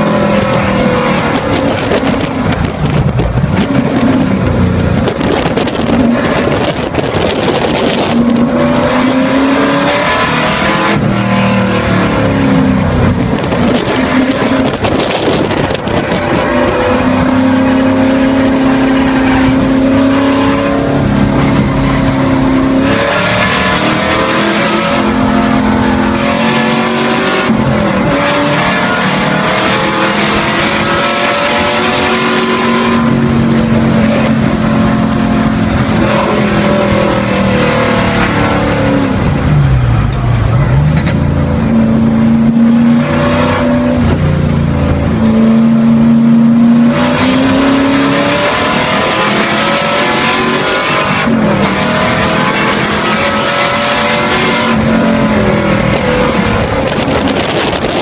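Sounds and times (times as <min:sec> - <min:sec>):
race car engine accelerating: 0:00.0 - 0:58.0
wind and road noise: 0:00.0 - 0:58.0.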